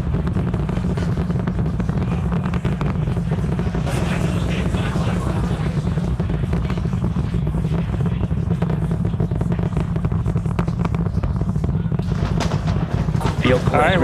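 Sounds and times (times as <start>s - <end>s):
distant rocket engine roar: 0.0s - 14.0s.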